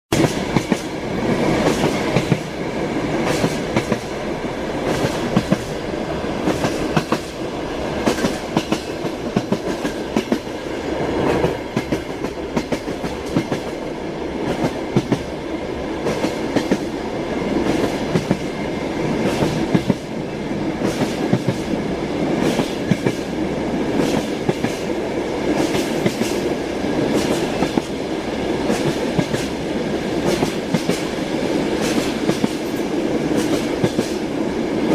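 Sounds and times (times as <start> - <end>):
rumble of moving train: 0.1 - 34.9.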